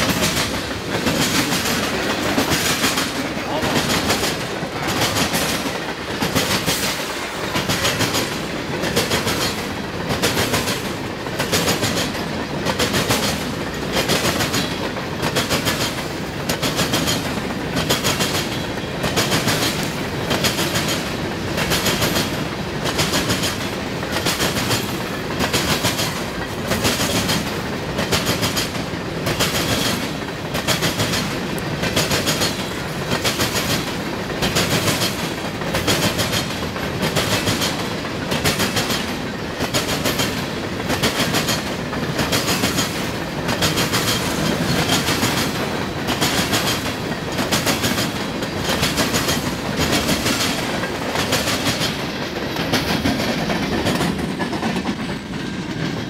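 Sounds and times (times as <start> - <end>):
train rumble: 0.0 - 56.0
train wheels clickety-clack: 0.0 - 56.0.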